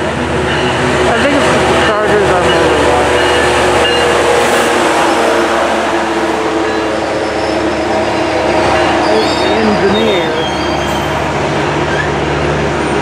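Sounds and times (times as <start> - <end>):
diesel locomotive engine passing: 0.0 - 13.0
train coaches rolling on rails: 0.0 - 13.0.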